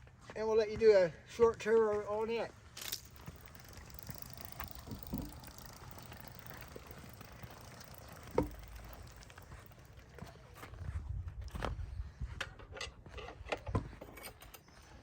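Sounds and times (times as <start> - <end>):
handling noises: 2.7 - 14.9.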